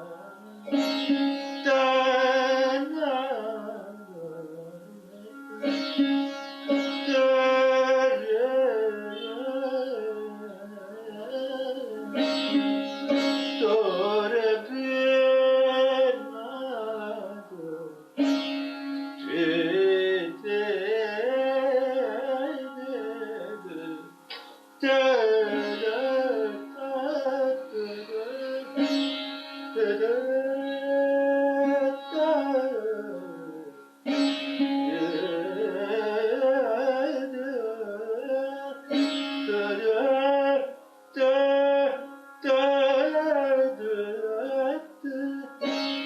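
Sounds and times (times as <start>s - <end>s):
string instrument melody: 0.0s - 46.0s.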